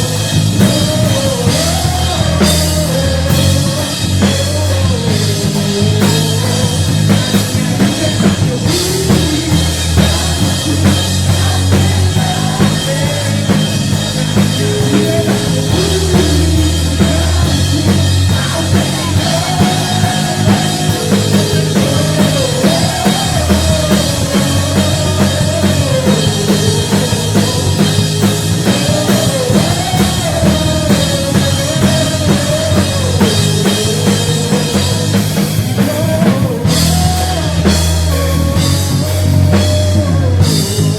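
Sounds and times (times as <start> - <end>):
drum kit playing: 0.0 - 40.9
rock backing track: 0.0 - 40.9.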